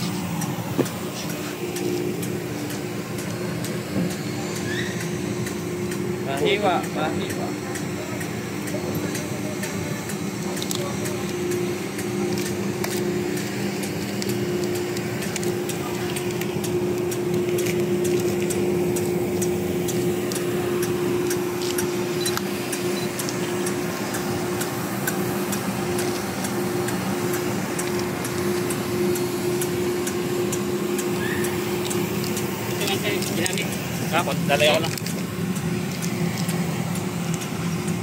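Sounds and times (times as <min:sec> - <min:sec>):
ship machinery hum: 0:00.0 - 0:38.0.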